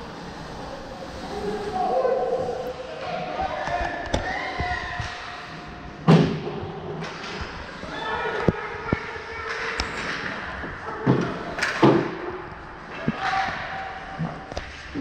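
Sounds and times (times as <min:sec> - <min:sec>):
spectators' voices: 0:00.0 - 0:15.0.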